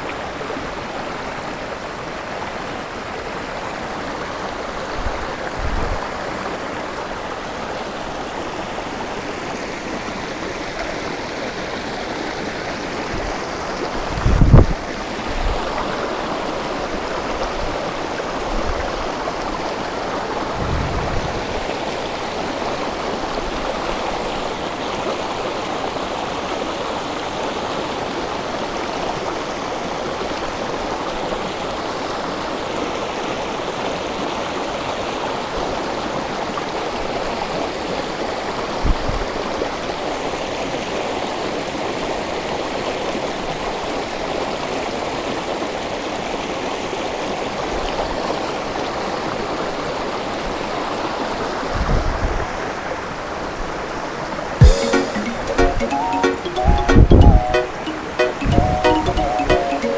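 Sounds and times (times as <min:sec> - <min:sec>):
stream rapids rushing: 0:00.0 - 0:59.9.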